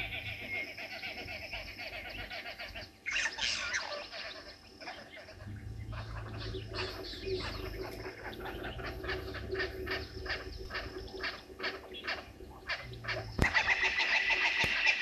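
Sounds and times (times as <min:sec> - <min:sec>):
birds giving harsh grating calls: 0:00.0 - 0:15.0.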